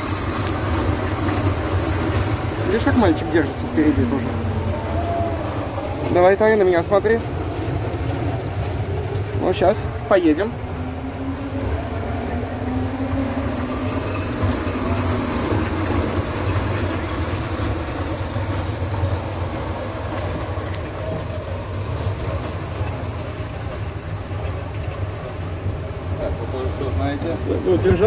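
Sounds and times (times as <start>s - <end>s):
fairground ride mechanical rumble: 0.0s - 28.0s.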